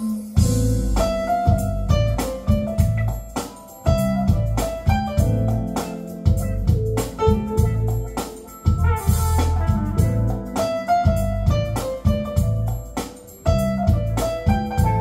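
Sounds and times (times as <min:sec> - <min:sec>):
smooth jazz instrumental: 0:00.0 - 0:15.0.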